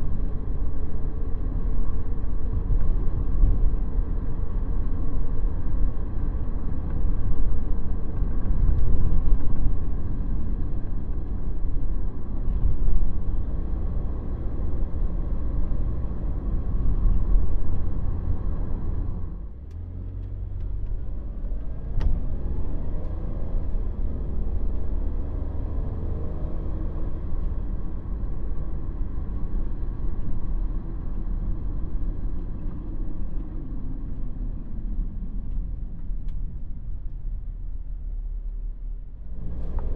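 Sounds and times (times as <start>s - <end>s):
van engine and road rumble: 0.0s - 39.9s.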